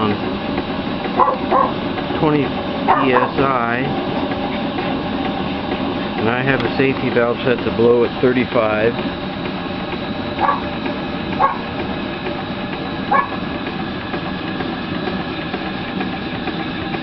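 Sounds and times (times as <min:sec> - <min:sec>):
gas burner roar: 0:00.0 - 0:17.0
steam engine clicking: 0:00.0 - 0:17.0.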